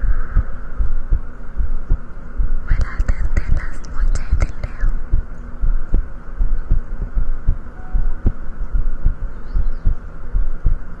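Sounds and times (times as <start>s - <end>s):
heartbeat thumps: 0.0s - 10.9s.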